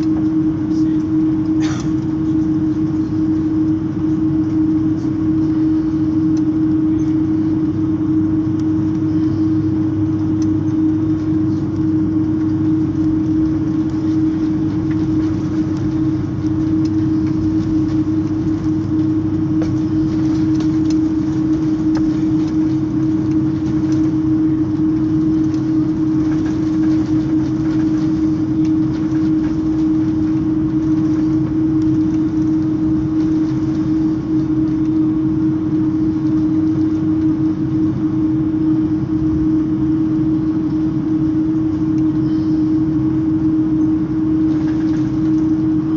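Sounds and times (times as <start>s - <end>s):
aircraft cabin engine drone: 0.0s - 45.9s
constant humming tone: 0.0s - 45.9s.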